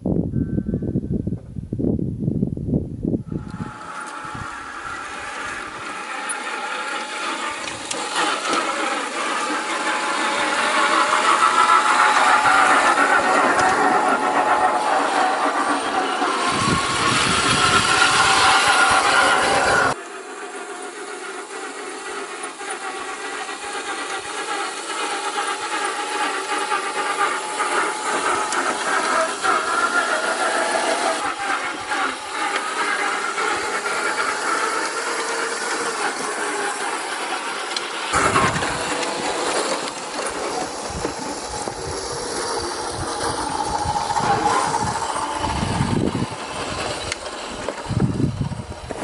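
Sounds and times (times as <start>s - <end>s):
toy car motor and gears whining: 3.3s - 49.0s
hiss: 3.4s - 48.1s.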